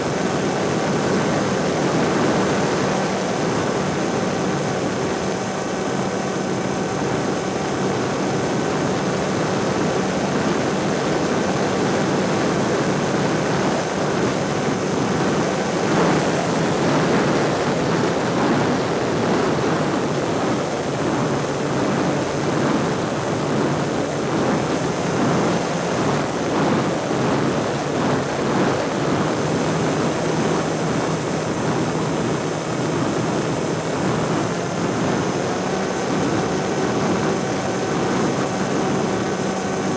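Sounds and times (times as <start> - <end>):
small aircraft engine running: 0.0 - 39.9
wind rushing over microphone: 0.0 - 39.9.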